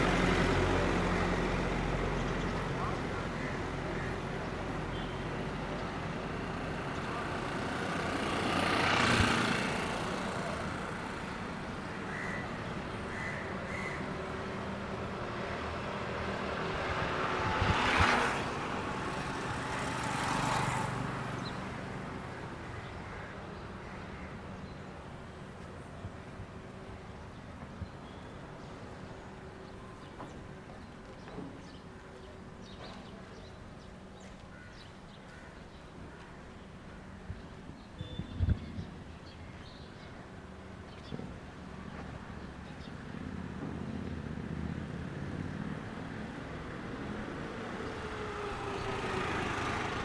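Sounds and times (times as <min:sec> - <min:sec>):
vehicles passing by: 0:00.0 - 0:50.0.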